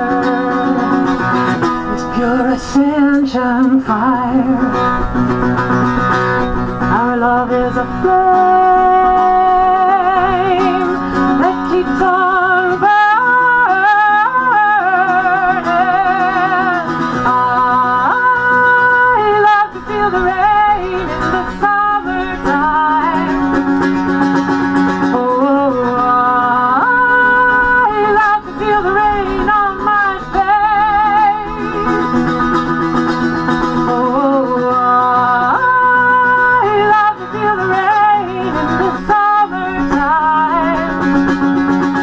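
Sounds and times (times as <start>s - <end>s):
woman singing with vibrato: 0.0s - 5.3s, 6.7s - 24.0s, 24.8s - 42.0s
mandolin: 0.0s - 42.0s.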